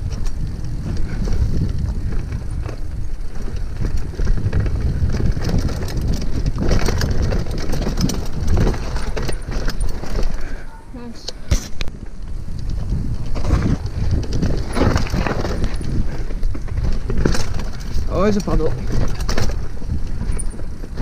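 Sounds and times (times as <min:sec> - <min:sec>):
tyres rumbling on dirt: 0:00.0 - 0:11.2, 0:12.0 - 0:21.0
bike rattling over bumps: 0:00.0 - 0:21.0
wind on microphone: 0:00.0 - 0:21.0.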